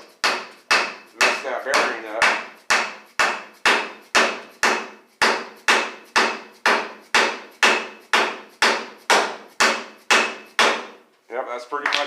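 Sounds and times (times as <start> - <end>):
hammer striking metal axle: 0.2 - 11.0.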